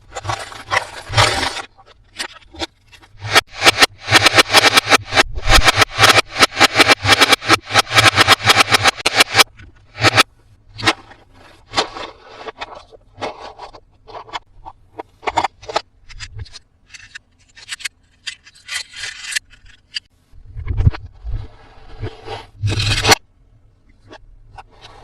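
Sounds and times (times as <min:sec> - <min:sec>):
packaging scraping and rubbing: 0:00.0 - 0:20.1, 0:20.9 - 0:23.2.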